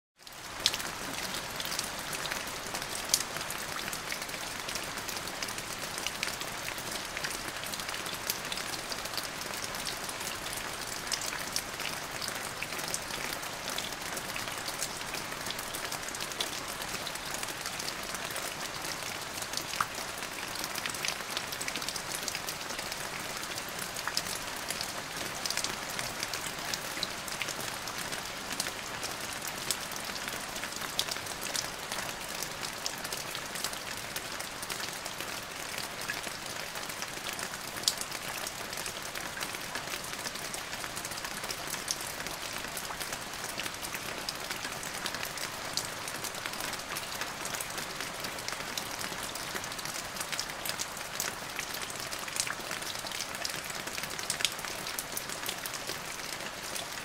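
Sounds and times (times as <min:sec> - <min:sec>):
steady rain falling: 0:00.2 - 0:57.0.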